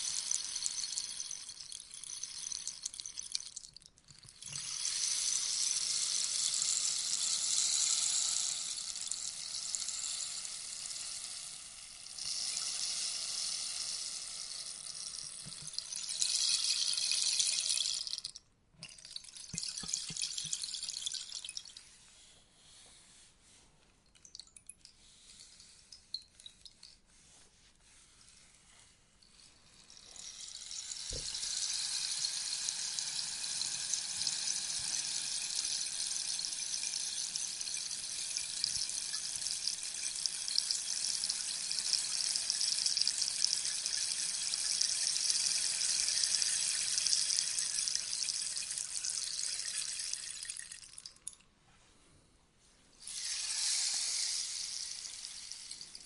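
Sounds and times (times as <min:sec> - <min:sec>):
rainstick pellets trickling: 0:00.0 - 0:21.8, 0:29.2 - 0:51.4, 0:53.0 - 0:56.0.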